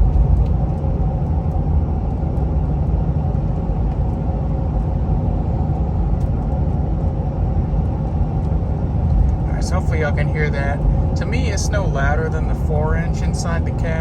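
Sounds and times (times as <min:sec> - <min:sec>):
diesel exhaust drone: 0:00.0 - 0:14.0
road and wind noise: 0:00.0 - 0:14.0.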